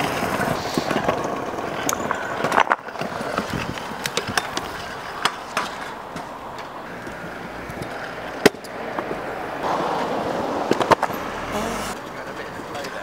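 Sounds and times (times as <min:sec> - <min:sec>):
scooter wheels rolling on paving: 0:00.0 - 0:13.0.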